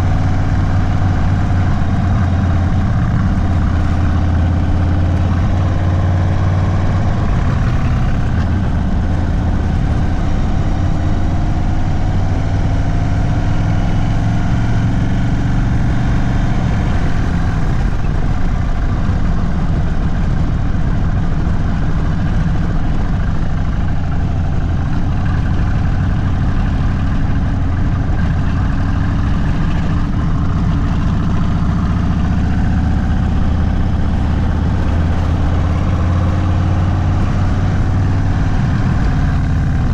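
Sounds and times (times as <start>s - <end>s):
deep motorcycle engine rumble: 0.0s - 39.9s.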